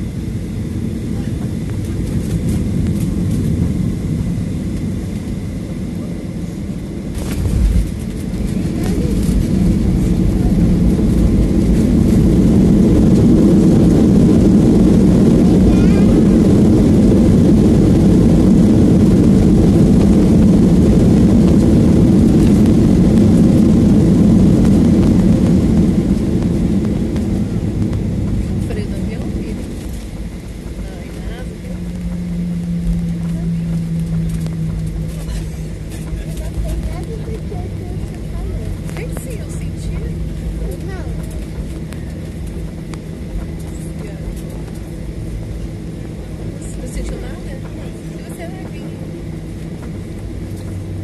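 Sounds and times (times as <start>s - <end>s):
jet engine reverse thrust roar: 0.0s - 51.0s.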